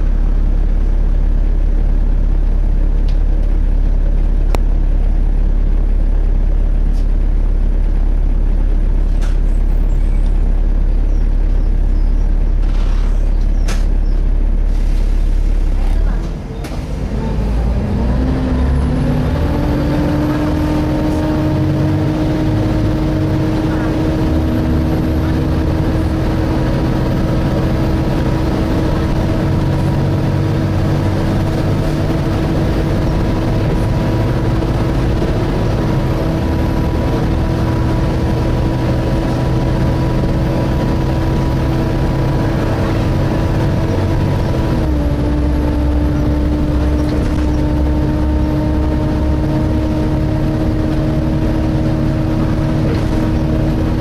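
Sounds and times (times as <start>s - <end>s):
bus cooling fan whining: 0.0s - 54.0s
engine and road rumble: 0.0s - 54.0s.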